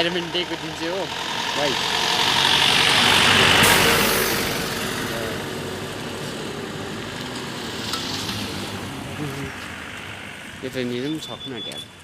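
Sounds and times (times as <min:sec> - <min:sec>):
motor vehicle passing by: 0:00.0 - 0:11.4.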